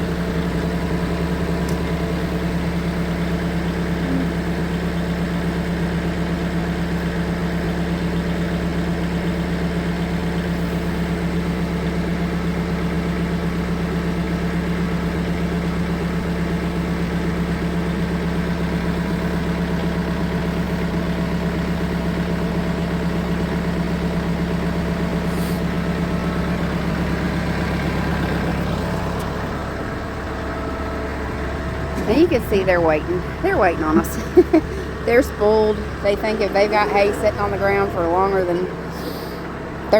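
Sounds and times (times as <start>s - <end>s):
tractor engine humming: 0.0s - 39.9s.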